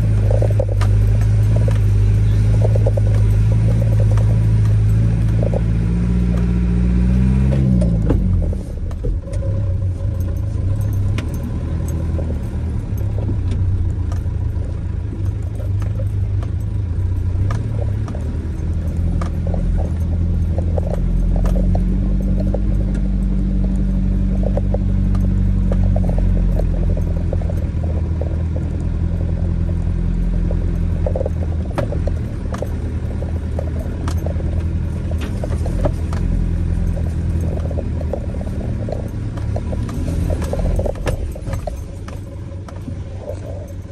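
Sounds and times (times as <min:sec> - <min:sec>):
vehicle body rattles and knocks: 0:00.0 - 0:06.6, 0:07.3 - 0:43.9
vehicle engine running: 0:00.0 - 0:43.9.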